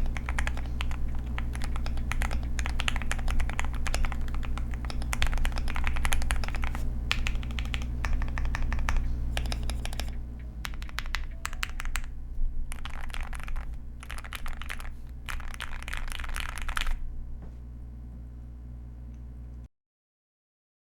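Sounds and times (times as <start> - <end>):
mechanical keyboard typing: 0.0 - 17.0
steady low hum: 0.0 - 19.7.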